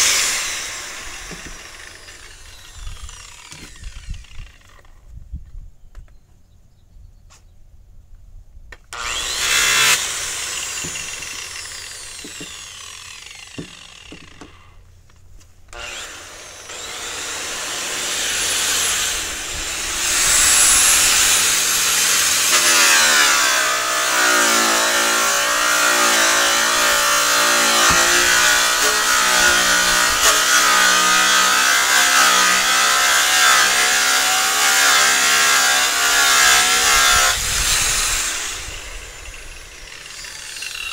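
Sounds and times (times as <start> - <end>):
angle grinder polishing metal: 0.0 - 4.6, 9.0 - 14.8, 15.7 - 40.9.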